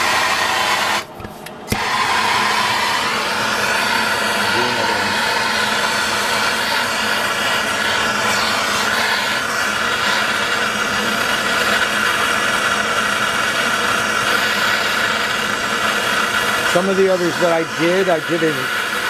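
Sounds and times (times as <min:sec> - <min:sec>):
gas torch hissing: 0:00.0 - 0:19.0.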